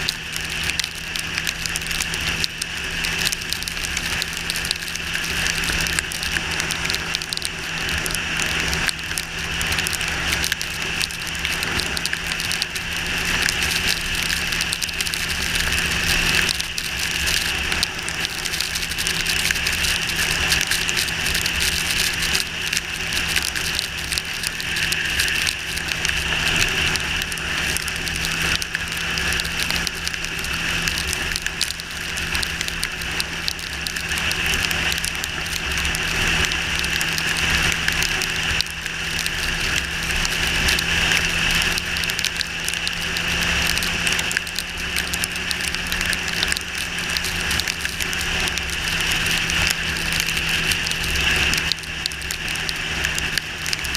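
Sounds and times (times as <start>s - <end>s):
motorcycle engine cruising: 0.0s - 53.9s
wet road noise: 0.0s - 53.9s.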